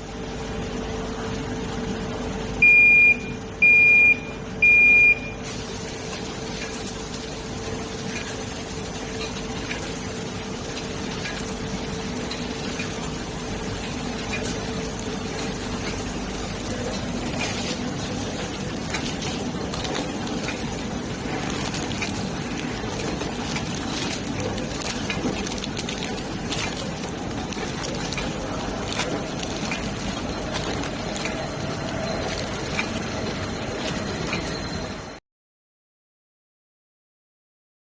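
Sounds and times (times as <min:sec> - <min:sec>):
packaging machine humming: 0:00.0 - 0:35.2.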